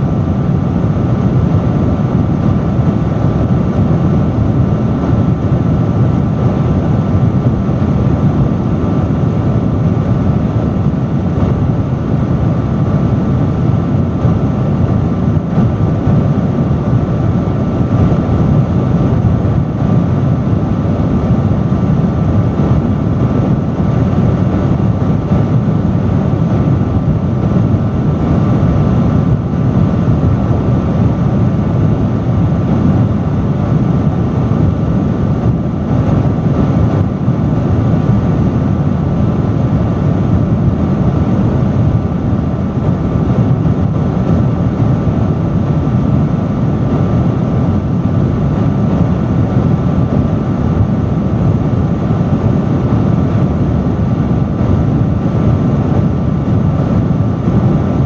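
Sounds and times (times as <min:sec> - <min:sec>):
faint steady whine: 0:00.0 - 0:58.0
industrial fan rushing air: 0:00.0 - 0:58.0.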